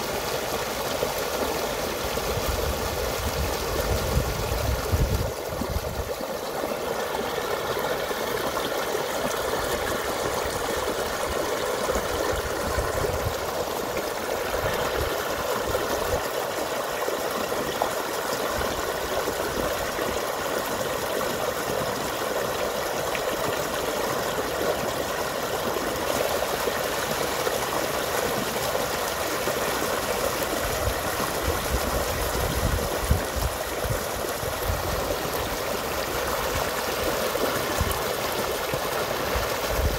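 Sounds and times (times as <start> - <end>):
stream rushing and splashing: 0.0 - 39.9.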